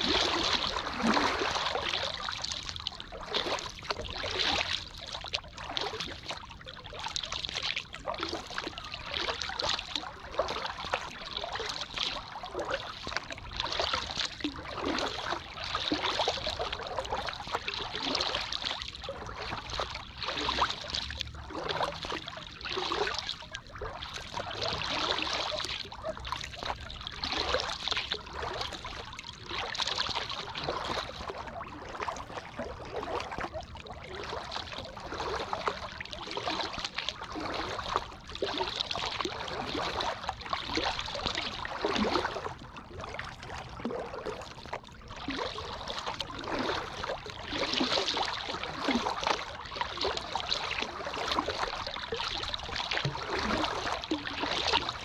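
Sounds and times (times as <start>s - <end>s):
water splashing around kayak: 0.0s - 55.0s.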